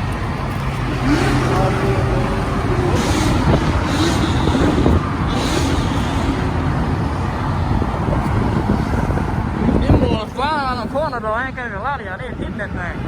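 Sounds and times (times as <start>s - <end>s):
loud car engines and exhausts: 0.0s - 13.0s.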